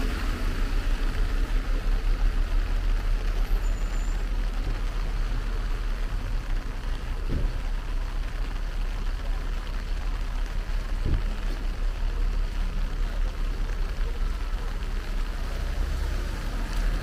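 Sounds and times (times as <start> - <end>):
heavy rain on wet street: 0.0 - 17.0
road traffic rumble: 0.0 - 17.0.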